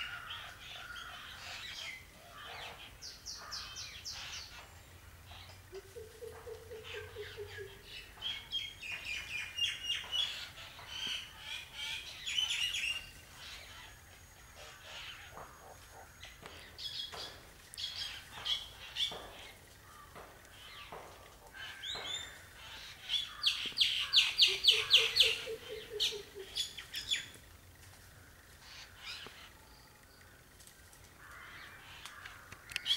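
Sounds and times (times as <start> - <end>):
bird calling: 0.0 - 27.4.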